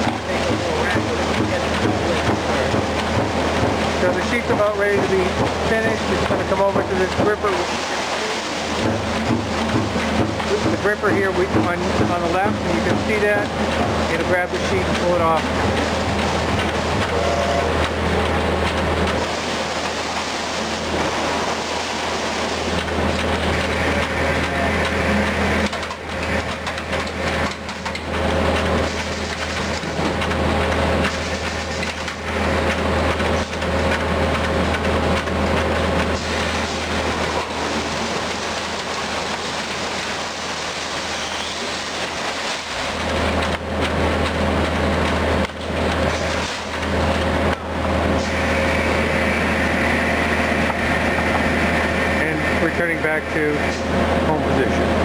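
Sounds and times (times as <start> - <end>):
punch press running: 0.0 - 55.0.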